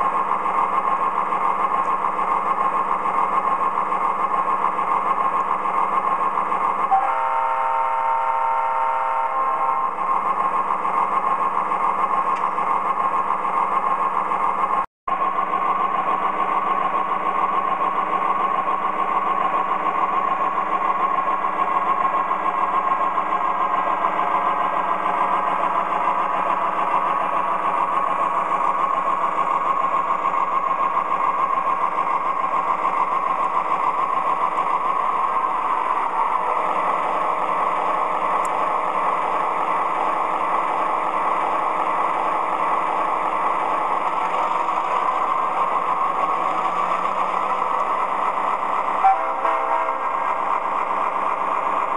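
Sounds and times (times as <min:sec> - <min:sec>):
model train diesel engine sound: 0:00.0 - 0:51.9
whir of model train motors: 0:00.0 - 0:51.9.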